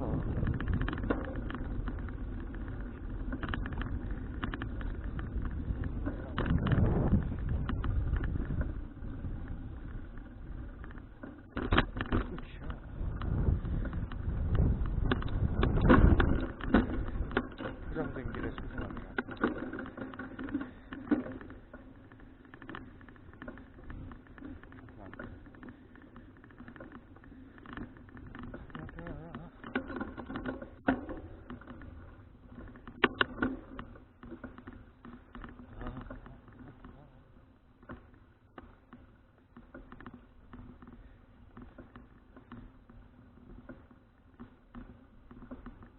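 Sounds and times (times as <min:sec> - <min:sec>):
bicycle rattles and clicks: 0:00.0 - 0:45.9
bicycle rolling on paved road: 0:00.0 - 0:45.9.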